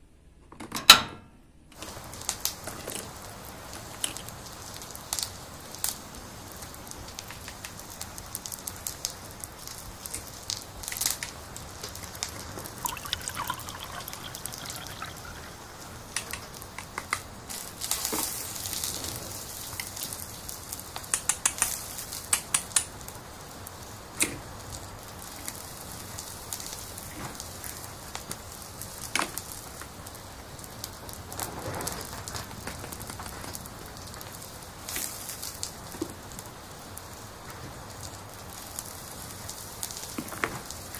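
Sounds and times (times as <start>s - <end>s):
faint crackling hiss: 1.6s - 40.9s.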